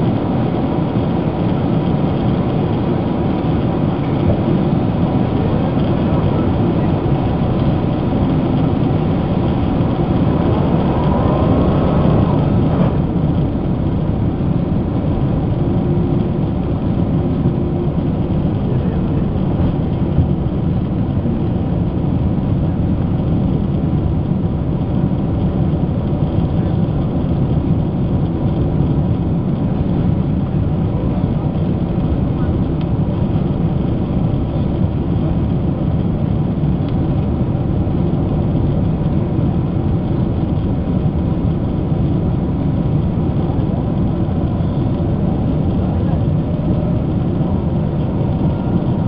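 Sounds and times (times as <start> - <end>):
jet cabin engine drone: 0.0 - 49.0.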